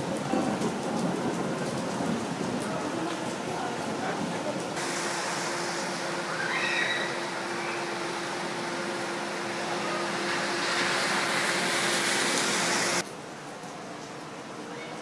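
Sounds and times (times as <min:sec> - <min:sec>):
heavy rain hissing: 0:00.0 - 0:13.4.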